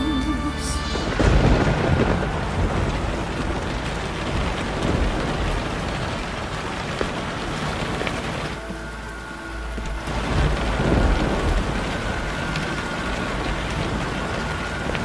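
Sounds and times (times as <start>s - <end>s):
heavy rain: 0.0s - 15.0s
thunder rolling: 0.8s - 15.0s.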